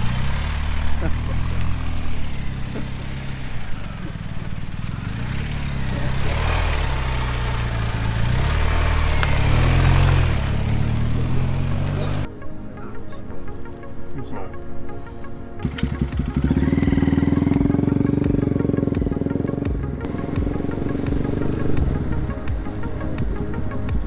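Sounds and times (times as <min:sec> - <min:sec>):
motorcycle engine revving: 0:00.0 - 0:12.3, 0:15.6 - 0:24.0
wind and road noise: 0:00.0 - 0:12.4, 0:15.3 - 0:24.0.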